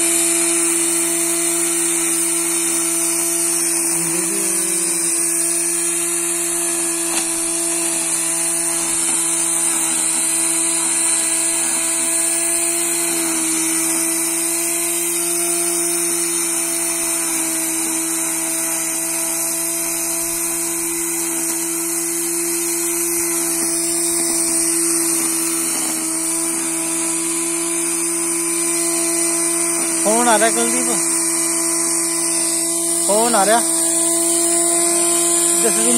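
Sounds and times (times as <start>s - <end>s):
grass cutter motor whining: 0.0s - 35.9s.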